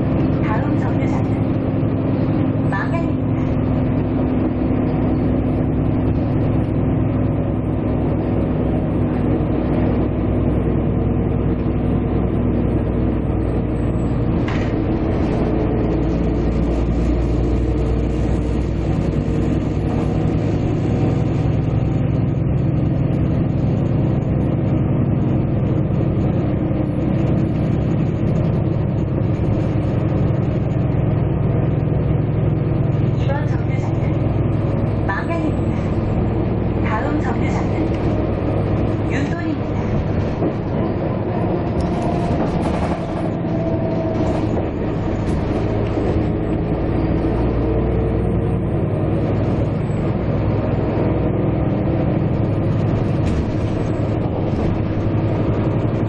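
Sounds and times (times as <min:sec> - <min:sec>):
vehicle engine drone: 0:00.0 - 0:56.0.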